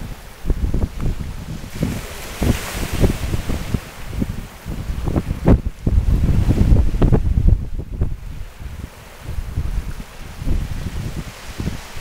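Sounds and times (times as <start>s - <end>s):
surf hissing on stones: 0.0s - 7.2s, 8.6s - 12.0s
waves washing onto pebbles: 0.0s - 7.2s, 8.0s - 12.0s
wind buffeting microphone: 0.0s - 12.0s.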